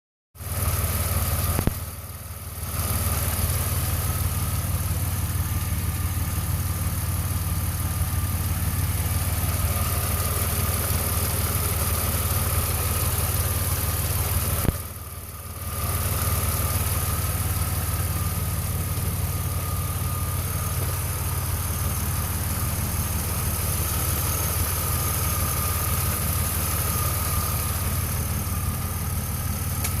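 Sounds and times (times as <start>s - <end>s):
car engine idling: 0.4s - 30.0s.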